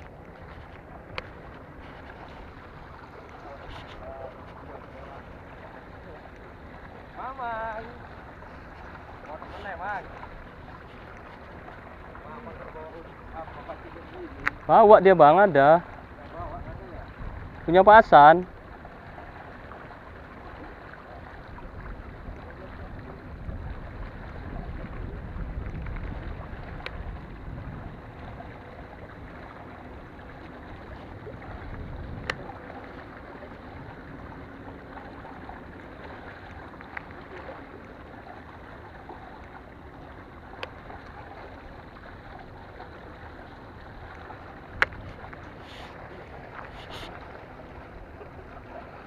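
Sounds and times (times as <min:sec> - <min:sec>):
wind and water wash: 0:00.0 - 0:49.0.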